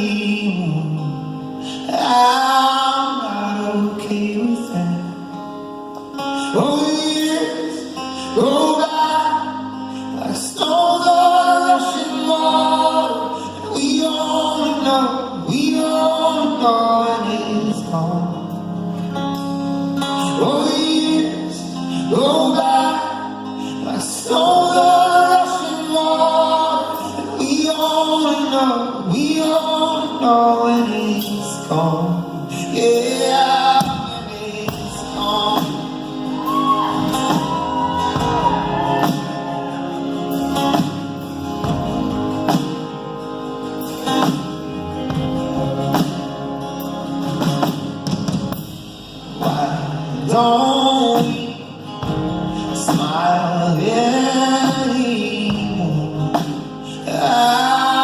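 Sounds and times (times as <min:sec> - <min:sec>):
person singing: 0:00.0 - 0:05.6, 0:06.2 - 0:18.7, 0:20.1 - 0:42.8, 0:49.3 - 0:58.0
live band playing: 0:00.0 - 0:58.0.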